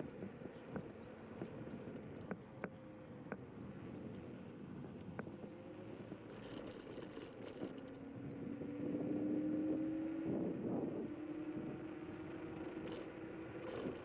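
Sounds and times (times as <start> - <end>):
tyre and road noise: 0.0 - 14.0.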